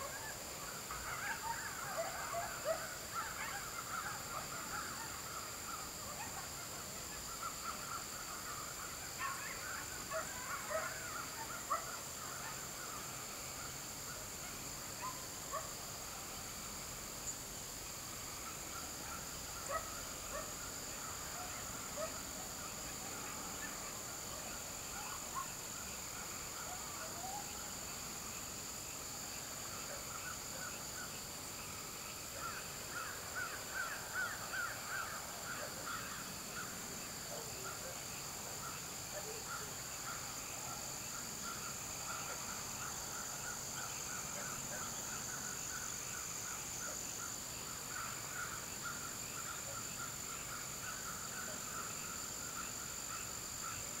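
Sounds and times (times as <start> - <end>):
frogs calling in pulses: 0.0 - 54.0.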